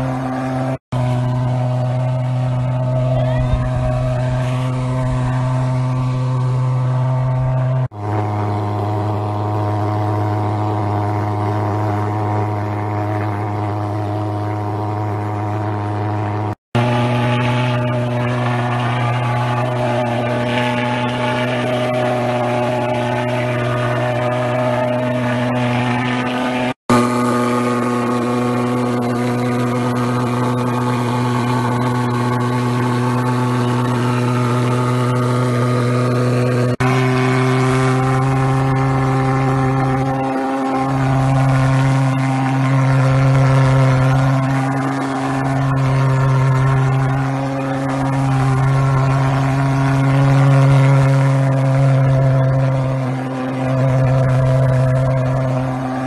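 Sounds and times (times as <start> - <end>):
pulse-jet engine buzzing drone: 0.0 - 56.0.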